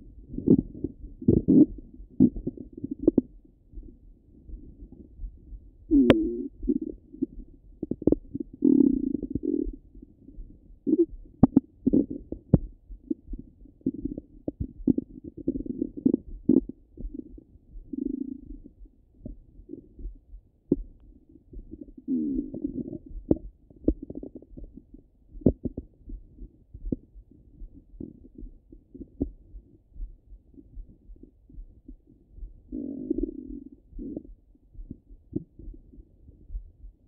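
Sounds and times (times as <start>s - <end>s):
stomach gurgles: 0.0s - 37.0s.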